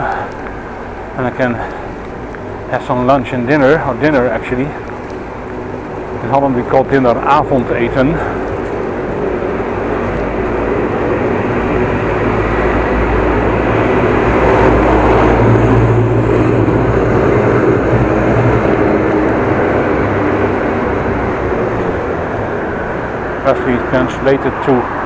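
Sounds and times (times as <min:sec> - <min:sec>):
bicycle tyre rumble on asphalt: 0:00.0 - 0:25.0
low hum: 0:00.0 - 0:25.0.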